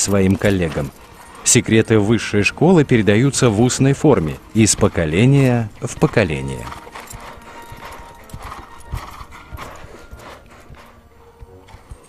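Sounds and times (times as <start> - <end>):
horse breathing: 0.0 - 12.0
horse hoofbeats: 0.0 - 12.0.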